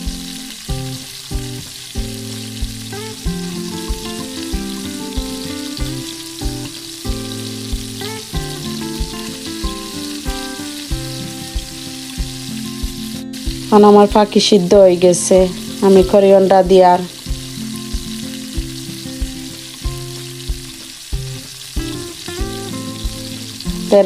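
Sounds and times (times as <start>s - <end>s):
background music with steady beat: 0.0s - 14.4s, 15.3s - 24.0s
meat sizzling in oil: 0.0s - 24.0s.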